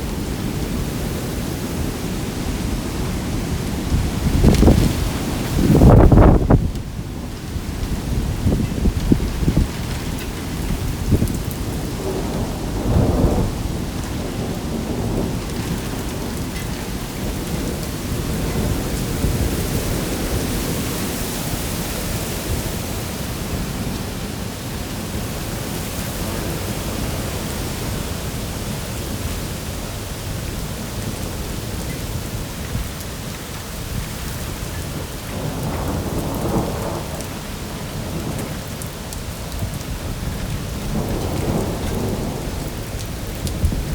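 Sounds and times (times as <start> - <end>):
heavy rain pouring: 0.0 - 43.9.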